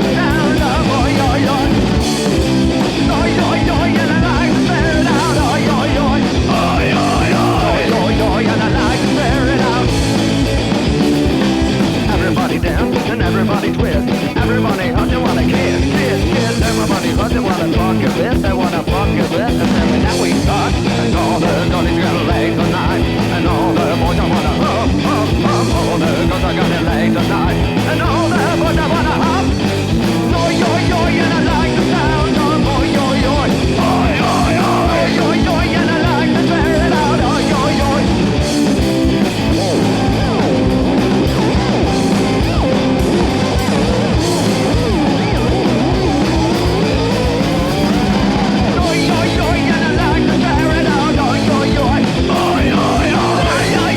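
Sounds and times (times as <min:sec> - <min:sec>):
person singing: 0:00.0 - 0:10.5, 0:12.0 - 0:53.9
bass guitar: 0:00.0 - 0:53.9
drums: 0:00.0 - 0:53.9
electric guitars: 0:00.0 - 0:53.9.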